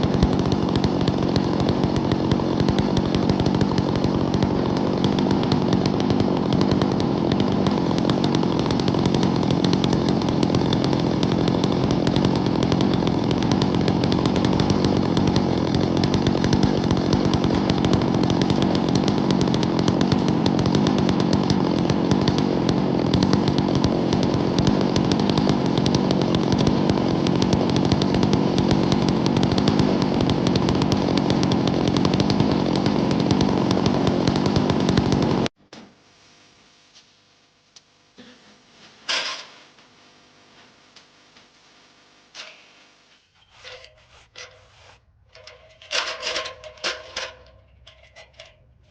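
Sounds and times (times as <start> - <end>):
chainsaw cutting wood: 0.0 - 35.9, 39.0 - 39.8, 42.3 - 48.9.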